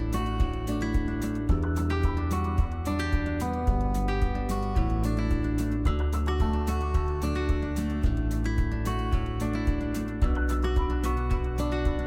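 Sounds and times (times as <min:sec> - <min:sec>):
guitar-led instrumental music: 0:00.0 - 0:12.0.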